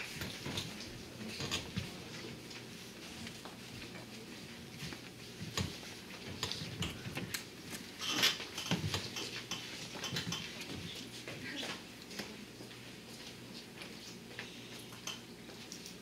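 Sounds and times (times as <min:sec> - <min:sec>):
footsteps and shuffling: 0:00.0 - 0:16.0.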